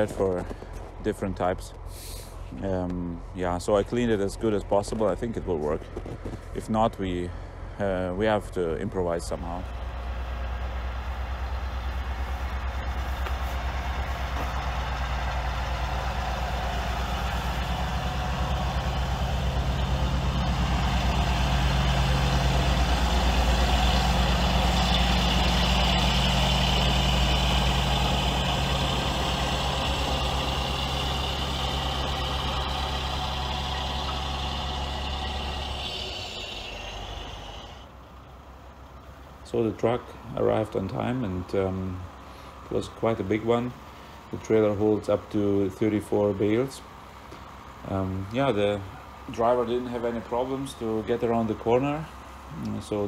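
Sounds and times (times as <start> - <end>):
truck diesel engine driving: 0.0 - 53.0.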